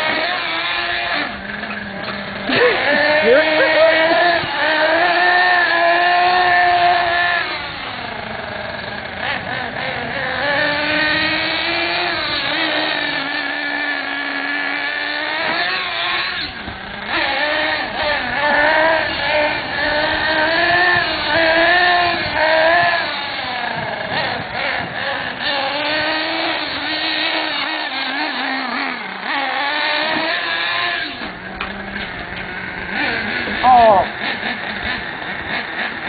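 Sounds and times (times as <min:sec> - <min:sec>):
small two-stroke engine revving: 0:00.0 - 0:36.0.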